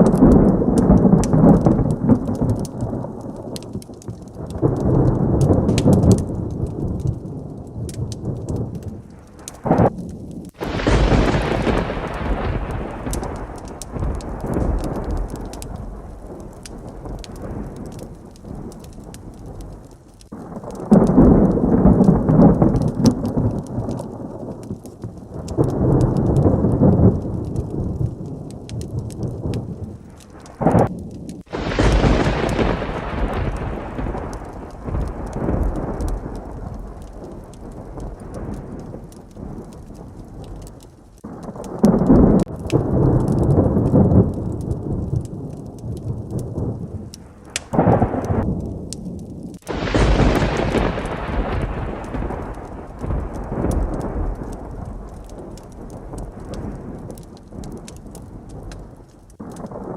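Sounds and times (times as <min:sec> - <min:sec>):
close thunderclap: 0:00.0 - 0:59.9
heavy rain: 0:00.0 - 0:59.9
thunder rumbling: 0:00.0 - 0:59.9.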